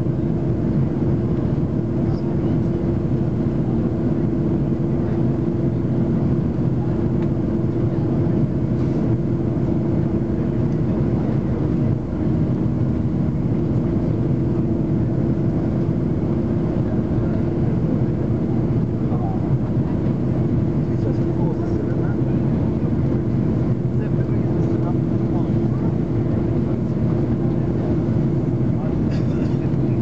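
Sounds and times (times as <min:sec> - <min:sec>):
airliner cabin drone: 0:00.0 - 0:30.0.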